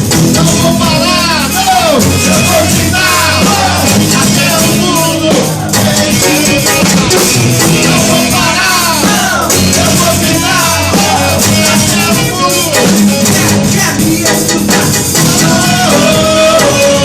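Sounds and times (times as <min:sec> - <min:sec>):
praise band playing: 0:00.0 - 0:17.0
voices singing: 0:00.0 - 0:17.0.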